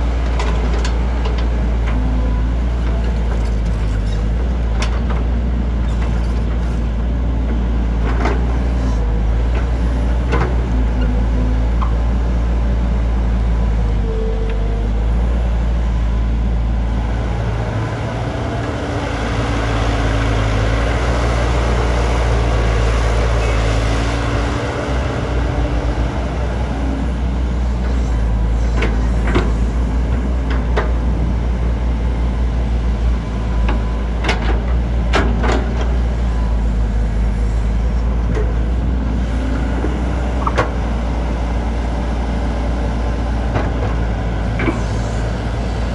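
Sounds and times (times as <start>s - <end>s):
excavator diesel engine rumbling: 0.0s - 45.9s.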